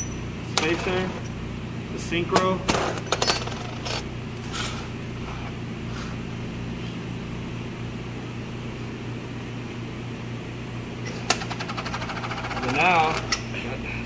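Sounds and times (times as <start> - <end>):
machinery electric hum: 0.0 - 14.0.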